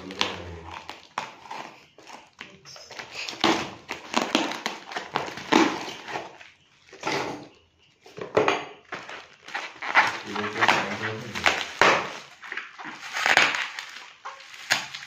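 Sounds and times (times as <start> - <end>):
cardboard parcel tearing and rustling: 0.0 - 7.5, 8.9 - 15.0.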